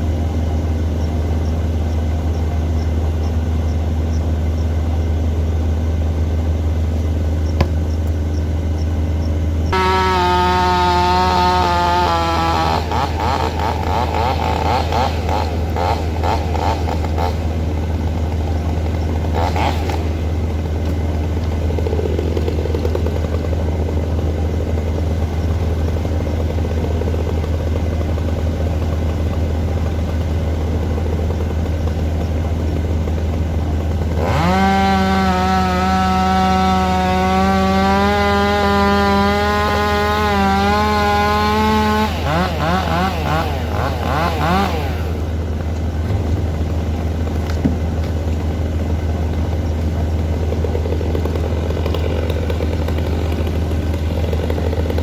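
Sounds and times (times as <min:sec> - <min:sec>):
higher-pitched engine whine: 0:00.0 - 0:55.0
machine engine running: 0:00.0 - 0:55.0.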